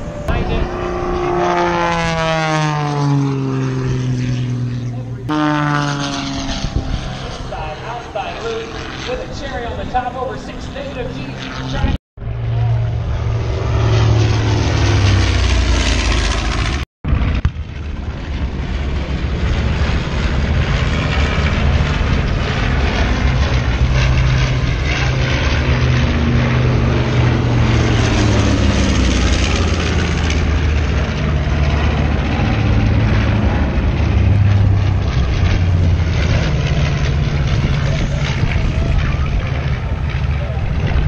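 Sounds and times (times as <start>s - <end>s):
propeller aircraft flying past: 0.0s - 41.0s.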